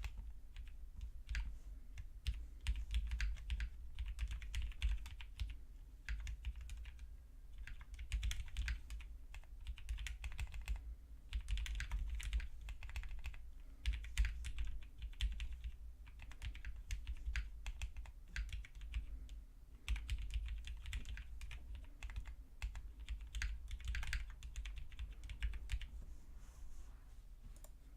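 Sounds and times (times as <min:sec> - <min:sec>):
mechanical keyboard typing: 0:00.0 - 0:19.0, 0:19.9 - 0:25.9.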